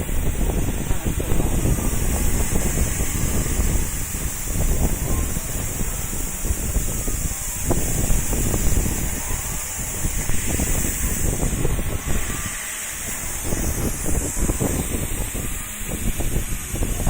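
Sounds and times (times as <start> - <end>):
low rumbling buffeting: 0.0 - 17.0
steady high hiss: 0.0 - 17.0.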